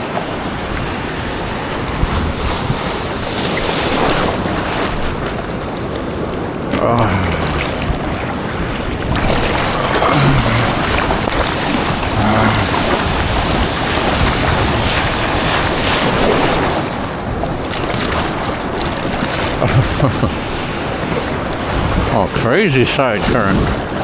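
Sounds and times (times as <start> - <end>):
water rushing and splashing: 0.0 - 24.0
wind buffeting microphone: 0.0 - 24.0.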